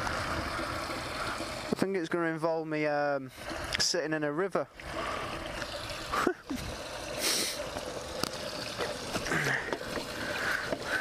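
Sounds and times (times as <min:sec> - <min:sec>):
water running and trickling: 0:00.0 - 0:11.0.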